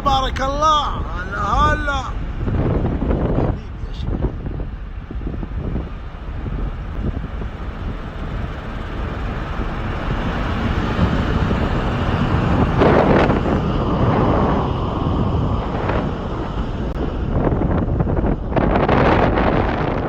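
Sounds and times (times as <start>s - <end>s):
car rumbling while moving: 0.0s - 20.0s
wind buffeting microphone: 0.0s - 20.0s.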